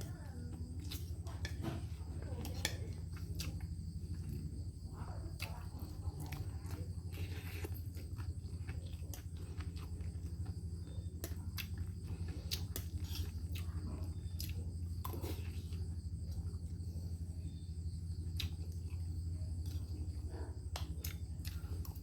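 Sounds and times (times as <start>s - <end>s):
crickets chirping: 0.0s - 22.0s
low steady hum: 0.0s - 22.0s.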